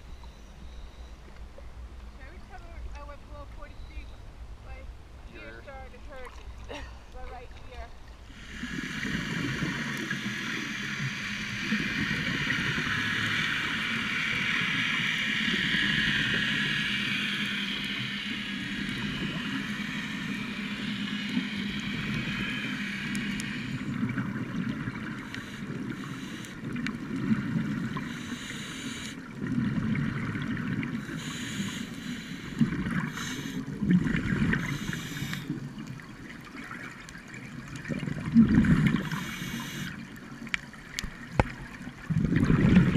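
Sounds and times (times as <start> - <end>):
underwater hiss and low hum: 0.0 - 42.9
regulator bubbles gurgling: 5.6 - 42.9.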